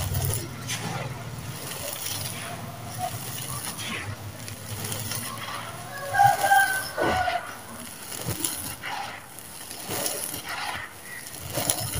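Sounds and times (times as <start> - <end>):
hands crunching gritty sand mix: 0.0 - 11.9.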